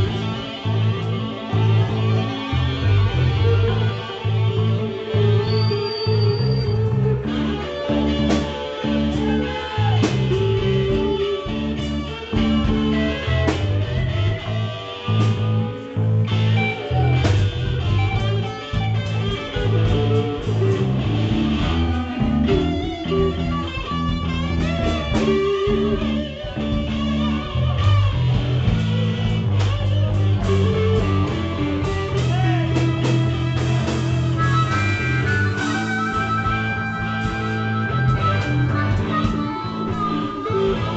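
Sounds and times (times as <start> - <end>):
electric guitars: 0.0 - 40.9
heavy pulsing bass line: 0.0 - 40.9.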